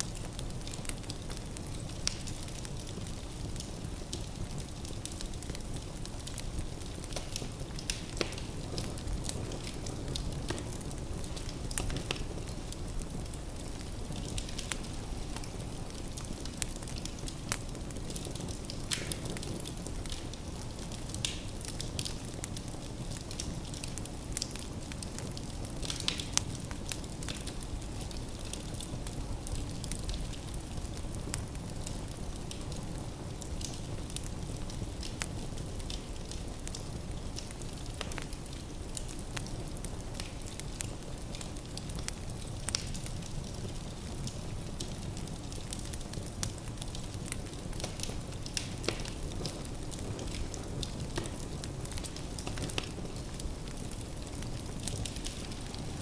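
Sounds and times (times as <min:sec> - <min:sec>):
fire burning in a fireplace: 0:00.0 - 0:56.0.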